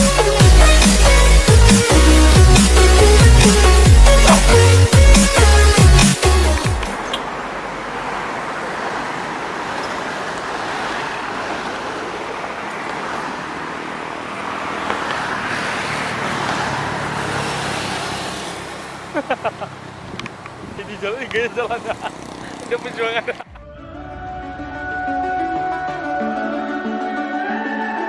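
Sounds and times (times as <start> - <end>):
road traffic rushing past: 0.0 - 26.4
vehicle engine: 0.1 - 25.7.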